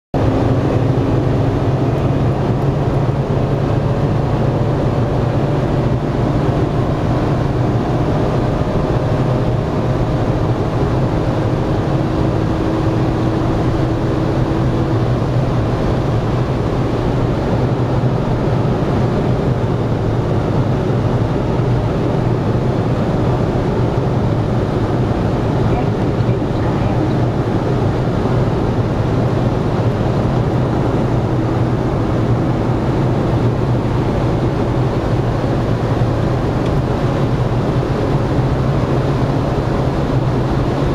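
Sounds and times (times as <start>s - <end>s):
car engine droning: 0.2s - 40.9s.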